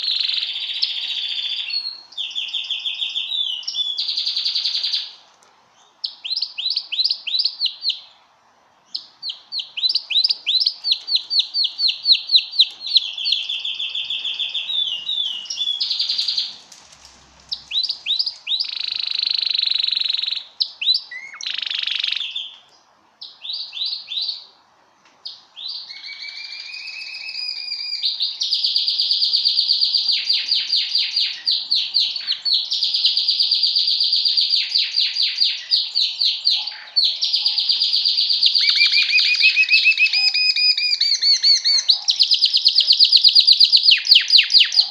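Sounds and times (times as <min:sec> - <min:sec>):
canary singing trills: 0:00.0 - 0:05.1, 0:08.9 - 0:16.6, 0:17.4 - 0:24.5, 0:25.2 - 0:44.9.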